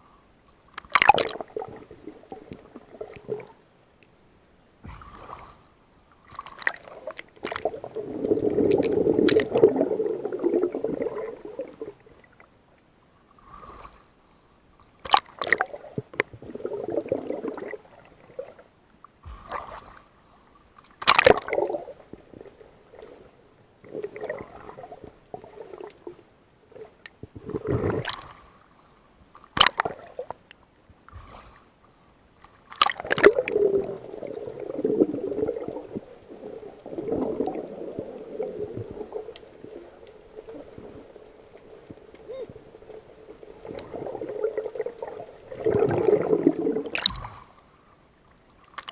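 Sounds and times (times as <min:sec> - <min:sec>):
water sloshing and gurgling: 0:00.5 - 0:14.2, 0:14.8 - 0:48.9
water splashes: 0:00.7 - 0:03.6, 0:04.8 - 0:12.4, 0:14.9 - 0:20.1, 0:20.8 - 0:28.6, 0:29.4 - 0:30.4, 0:32.4 - 0:47.7.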